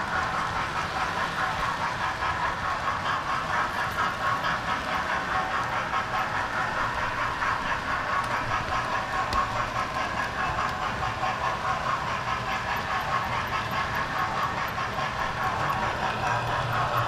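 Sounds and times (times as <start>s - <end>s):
model train motor running: 0.0s - 17.0s
model train wheels rattling: 0.0s - 17.0s.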